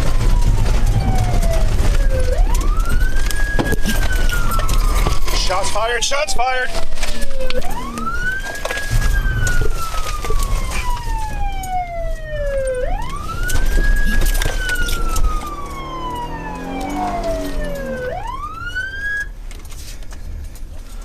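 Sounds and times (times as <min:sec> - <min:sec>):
police siren wailing: 0:00.0 - 0:19.4
vehicle noise rumble: 0:00.0 - 0:21.0.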